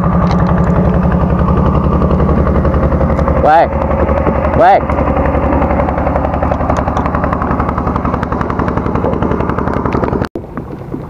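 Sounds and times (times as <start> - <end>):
small boat engine chugging: 0.0 - 11.0.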